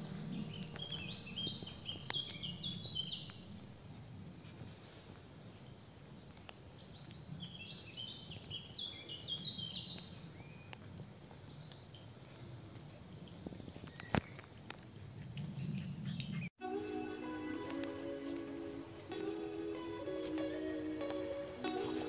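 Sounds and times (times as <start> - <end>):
songbird singing: 0.0 - 4.4, 6.8 - 12.0, 13.1 - 22.0.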